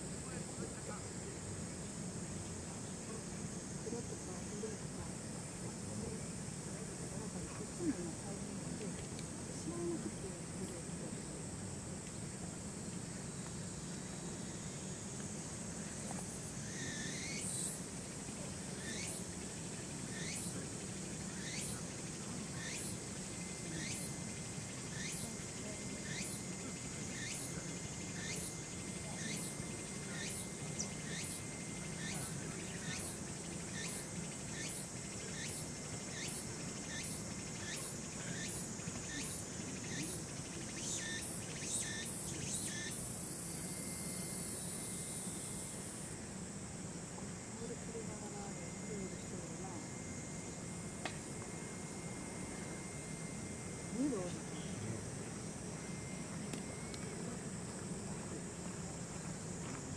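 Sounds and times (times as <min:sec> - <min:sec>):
cicada calling in sharp pulses: 0:00.0 - 0:59.9
high insect drone: 0:00.0 - 0:59.9.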